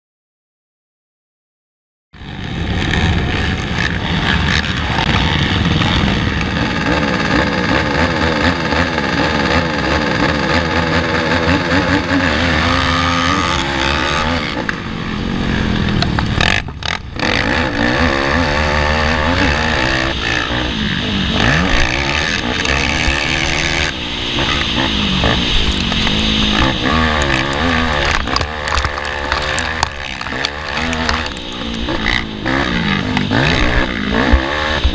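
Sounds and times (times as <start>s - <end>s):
quad engines revving hard: 2.2s - 34.9s.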